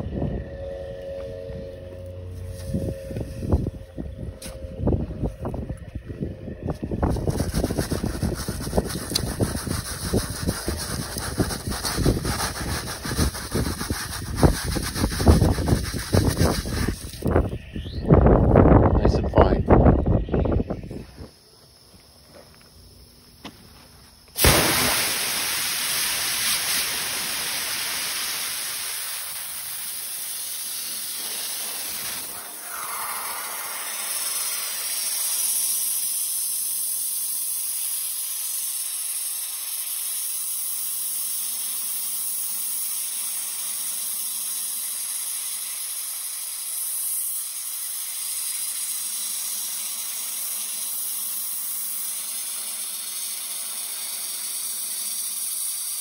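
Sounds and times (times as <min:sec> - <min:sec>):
sandblaster hissing: 0:02.1 - 0:04.7, 0:06.6 - 0:18.4, 0:24.3 - 0:56.0.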